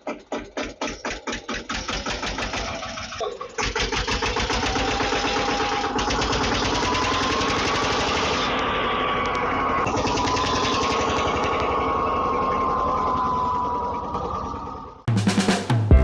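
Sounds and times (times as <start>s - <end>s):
tractor engine starting: 0.0s - 16.0s.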